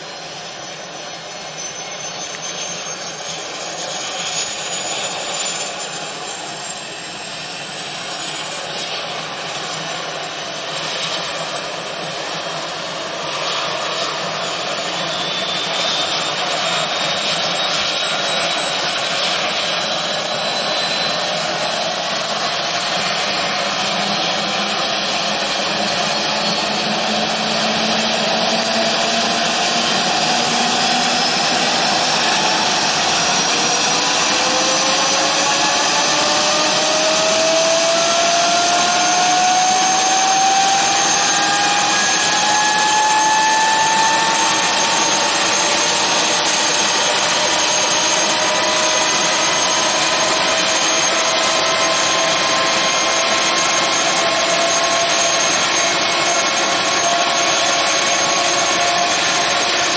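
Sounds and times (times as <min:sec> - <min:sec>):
helicopter turbine whine: 0:00.0 - 0:59.9.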